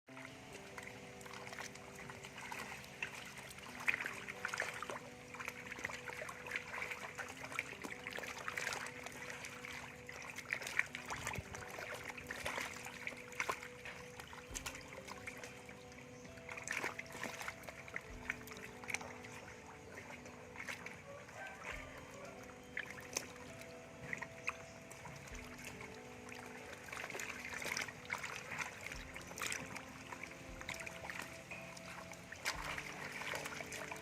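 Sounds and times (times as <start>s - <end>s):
background music: 0.1s - 34.0s
small water splashes: 0.1s - 34.0s
trickling water: 0.1s - 34.0s.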